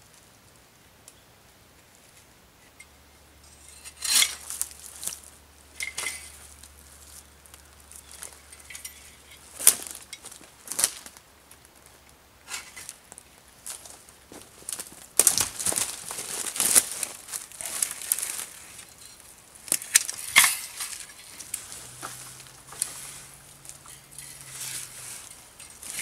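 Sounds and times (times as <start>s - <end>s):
dry sticks knocking and cracking: 3.7s - 11.9s, 12.5s - 26.0s.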